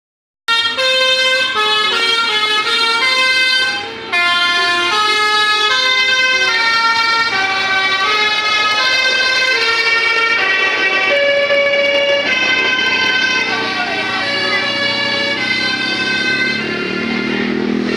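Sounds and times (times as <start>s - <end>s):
musical air horn tune: 0.5s - 17.9s.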